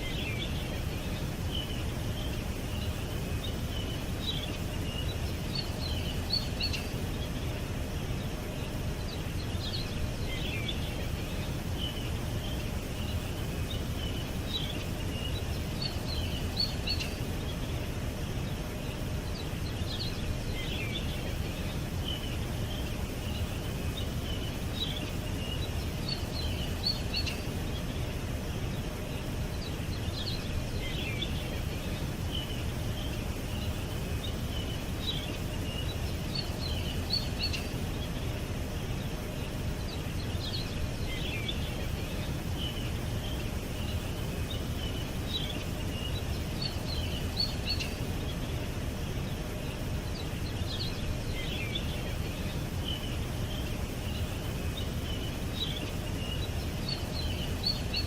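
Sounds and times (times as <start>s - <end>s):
low rumbling background noise: 0.0s - 58.0s
small birds chirping: 0.0s - 58.0s.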